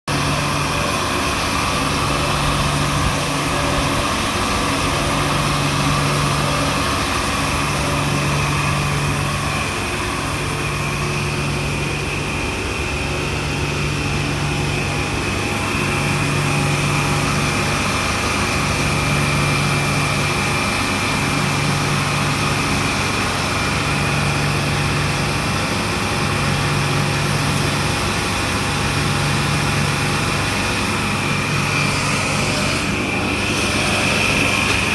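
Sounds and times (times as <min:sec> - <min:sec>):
motor hum: 0:00.1 - 0:34.9.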